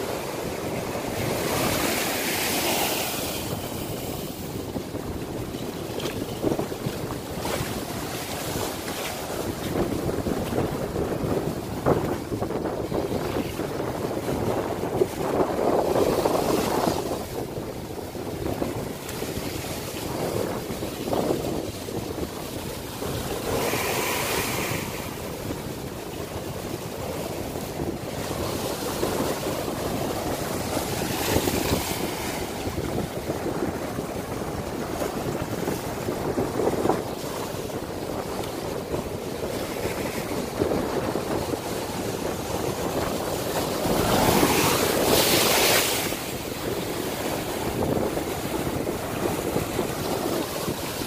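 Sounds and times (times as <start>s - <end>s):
waves breaking against rocks: 0.0s - 51.0s
wind buffeting microphone: 0.0s - 51.0s.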